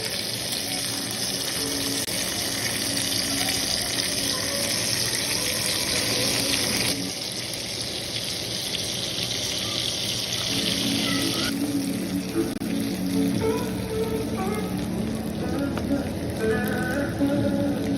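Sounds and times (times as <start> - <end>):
steak sizzling in a pan: 0.0 - 17.9.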